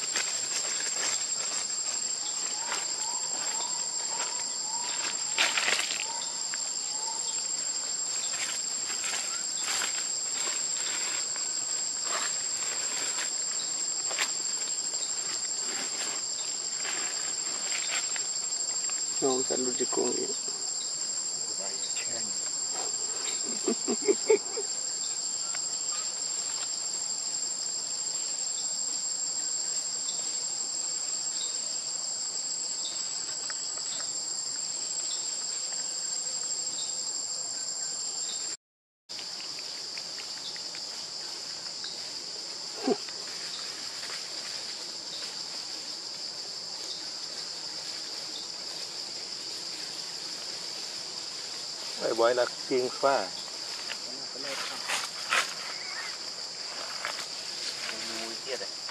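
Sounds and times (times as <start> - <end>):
insect chorus drone: 0.0 - 58.9.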